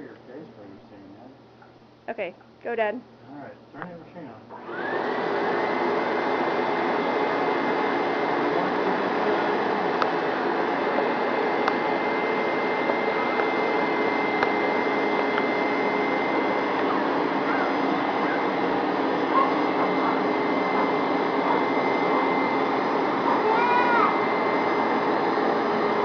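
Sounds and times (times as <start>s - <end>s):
carpet cleaner suction motor running: 4.5s - 26.0s.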